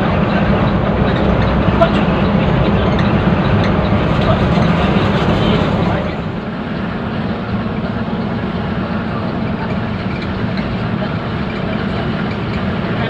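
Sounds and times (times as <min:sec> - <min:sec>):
bus engine drone: 0:00.0 - 0:13.0
road and wind noise: 0:00.0 - 0:13.0.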